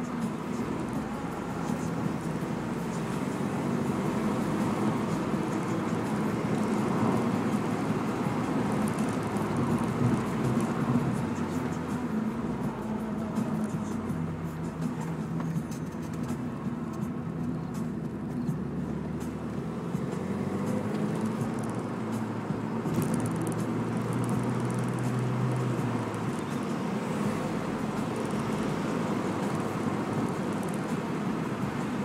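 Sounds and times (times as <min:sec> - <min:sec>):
car engine pulling uphill: 0:00.0 - 0:32.0
tyre and road noise: 0:00.0 - 0:32.0.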